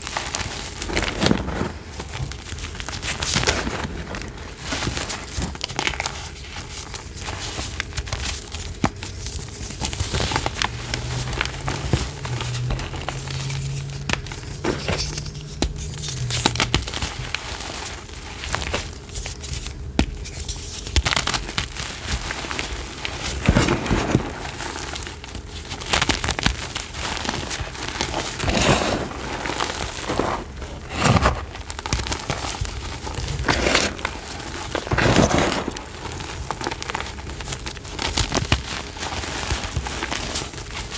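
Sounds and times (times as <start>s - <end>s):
powdery blocks crunching: 0.0s - 40.9s.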